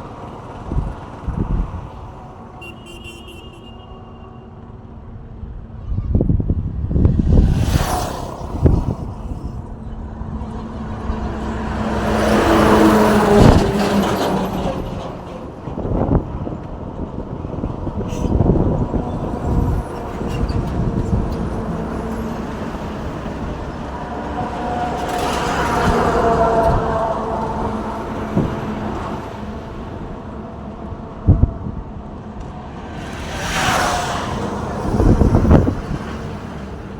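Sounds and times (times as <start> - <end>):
cars and trucks passing: 0.0 - 36.9.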